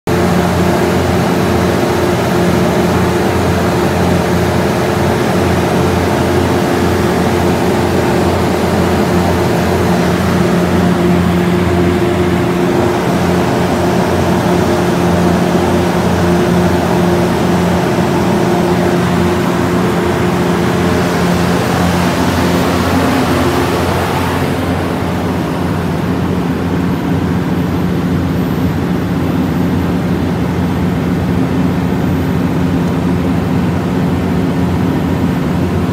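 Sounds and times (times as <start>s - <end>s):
diesel generator droning: 0.1s - 35.9s.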